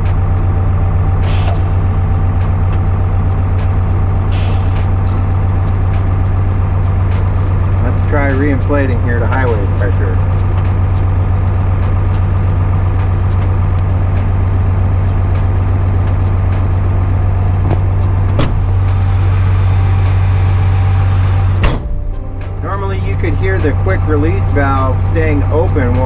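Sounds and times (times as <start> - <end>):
diesel truck engine running: 0.0 - 26.0
tires reinflating: 0.0 - 26.0.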